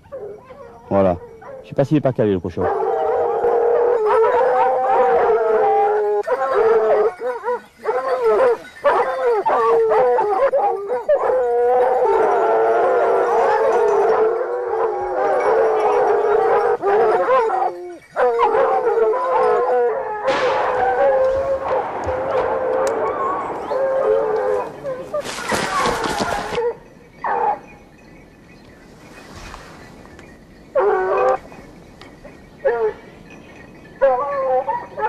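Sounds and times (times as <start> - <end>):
hounds baying and barking: 0.0 - 35.0.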